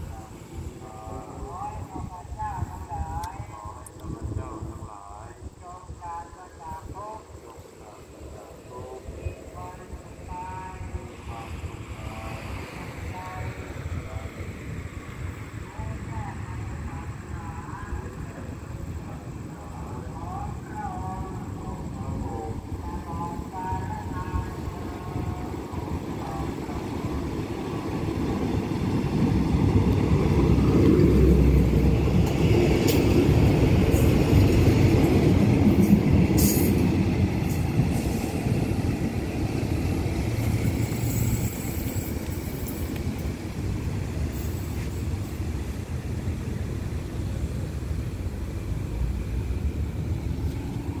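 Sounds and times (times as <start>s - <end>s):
train rumbling past: 0.0s - 51.0s.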